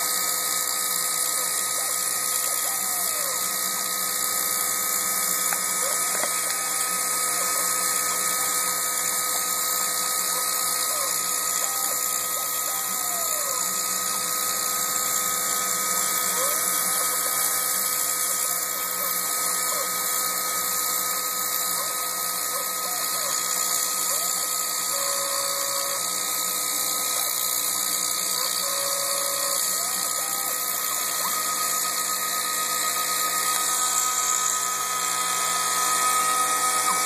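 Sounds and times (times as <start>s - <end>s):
milling machine whining: 0.0s - 37.0s.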